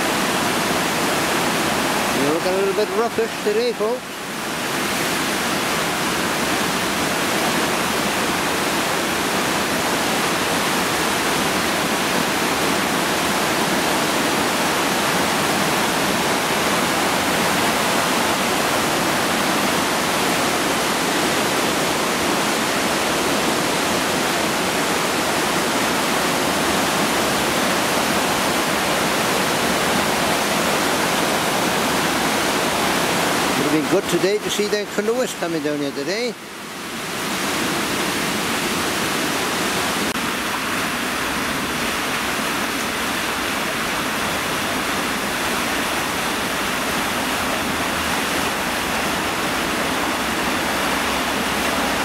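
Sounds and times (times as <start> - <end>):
floodwater rushing over a weir: 0.0 - 52.0.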